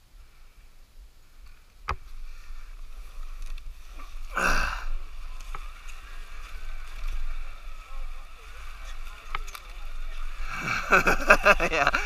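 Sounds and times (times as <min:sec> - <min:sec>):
dirt bike engines running: 0:01.5 - 0:12.0.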